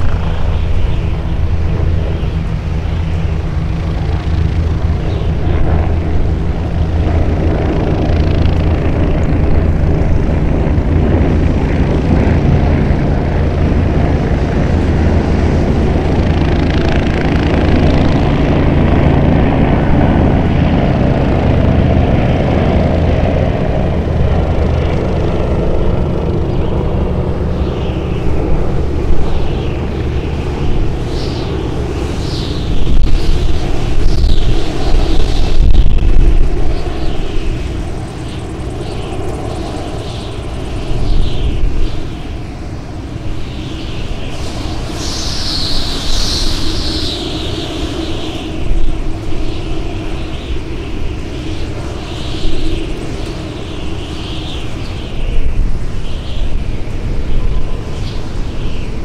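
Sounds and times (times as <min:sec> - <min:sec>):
engine droning hum: 0:00.0 - 0:59.0.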